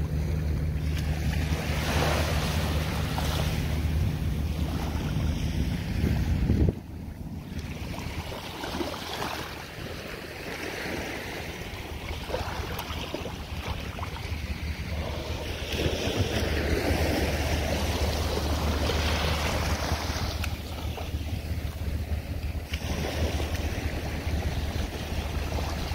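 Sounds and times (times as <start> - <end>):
small waves lapping: 0.0 - 25.9
wind buffeting microphone: 2.4 - 25.9.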